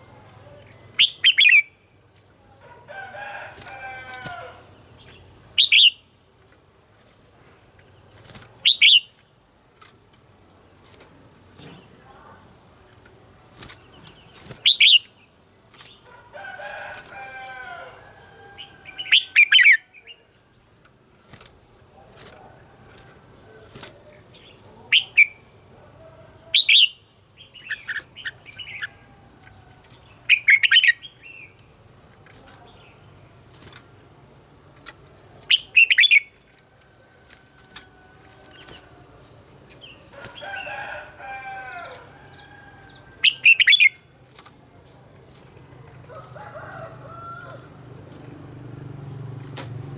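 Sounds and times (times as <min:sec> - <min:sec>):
birds singing: 0:00.0 - 0:10.0, 0:11.3 - 0:49.9.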